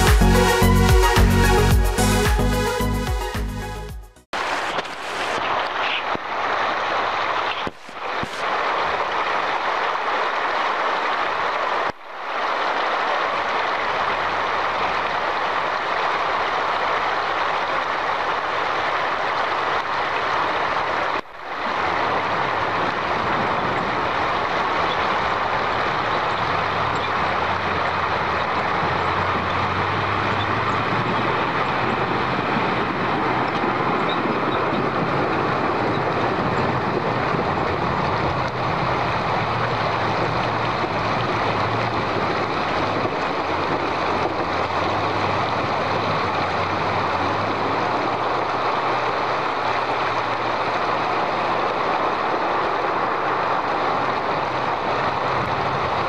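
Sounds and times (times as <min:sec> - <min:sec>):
rushing and splashing water: 0:00.0 - 0:56.0.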